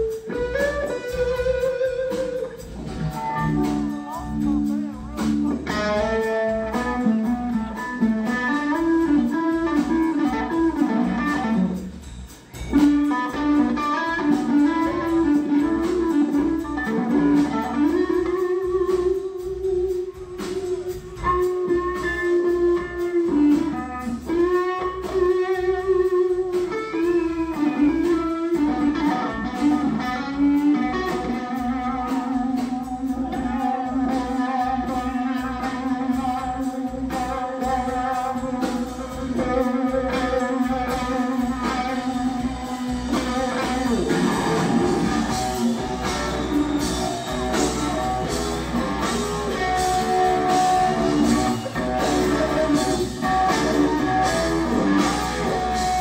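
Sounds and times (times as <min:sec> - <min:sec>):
bass guitar: 0:00.0 - 0:56.0
drums: 0:00.0 - 0:56.0
electric guitar bending notes: 0:00.0 - 0:56.0.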